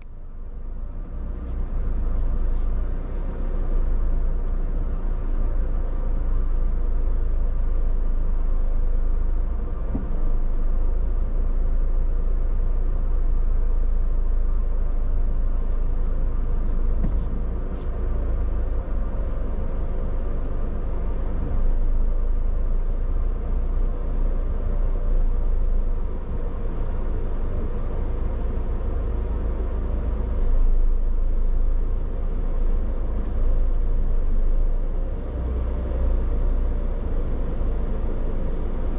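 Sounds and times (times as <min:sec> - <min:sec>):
car low rumble: 0:00.0 - 0:38.9.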